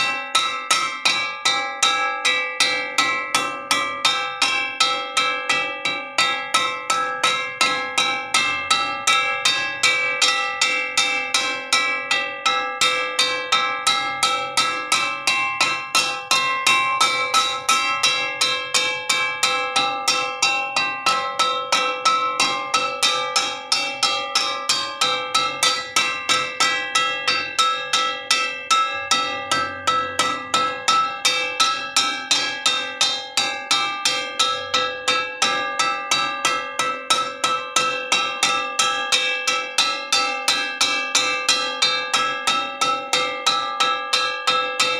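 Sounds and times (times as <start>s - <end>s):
metal wok struck ringing: 0.0s - 44.9s.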